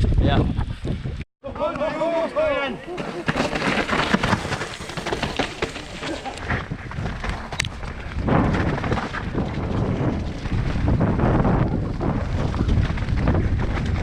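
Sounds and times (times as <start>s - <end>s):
wind buffeting microphone: 0.0s - 1.2s, 2.3s - 14.0s.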